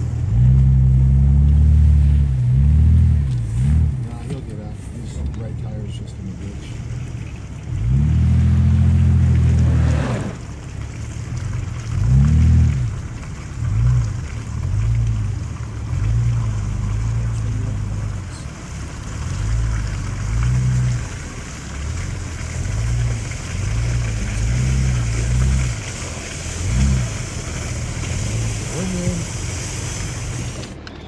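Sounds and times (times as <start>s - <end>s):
off-road vehicle engine revving: 0.0s - 4.5s, 7.7s - 10.6s, 11.4s - 13.0s, 13.6s - 30.8s
tyre and road noise: 0.0s - 31.0s.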